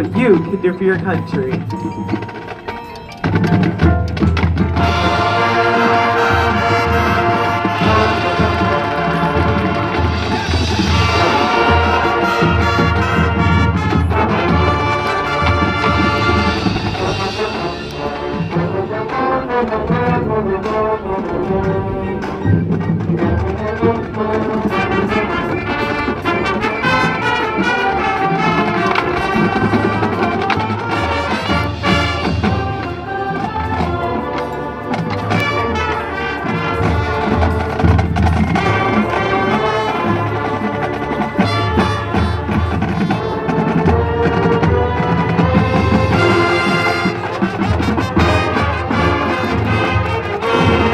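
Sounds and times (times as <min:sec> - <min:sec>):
marching band playing: 0:00.0 - 0:50.9.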